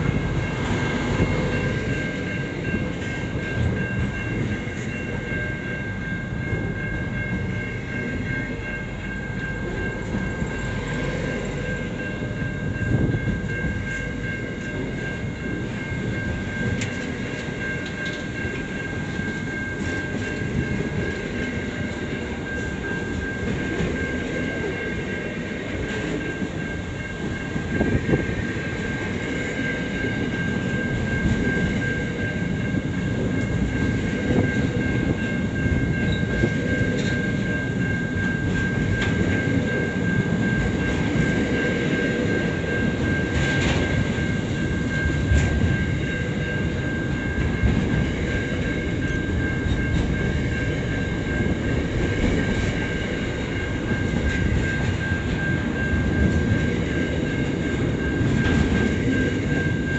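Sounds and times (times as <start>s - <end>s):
high ringing tone: 0.0s - 59.9s
train wheels rumbling on rail: 0.0s - 59.9s.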